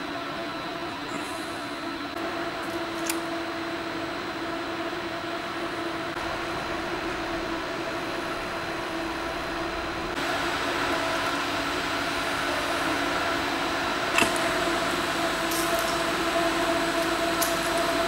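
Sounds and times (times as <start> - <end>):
ventilation hum with hiss: 0.0 - 18.0.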